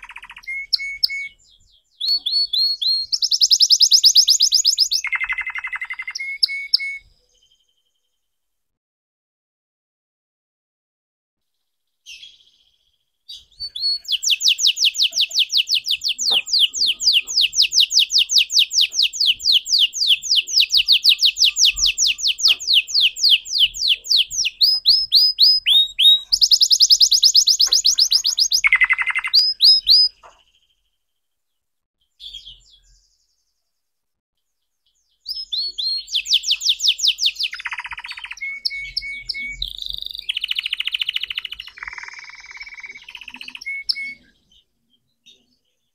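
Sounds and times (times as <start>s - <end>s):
canary singing trills: 0.0s - 8.0s, 12.0s - 30.9s, 34.9s - 45.9s.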